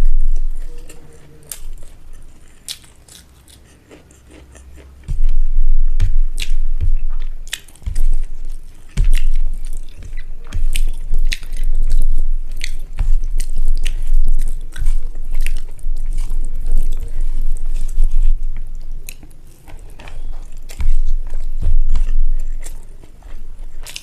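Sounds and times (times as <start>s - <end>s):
wet chewing with smacks: 0.0s - 24.0s.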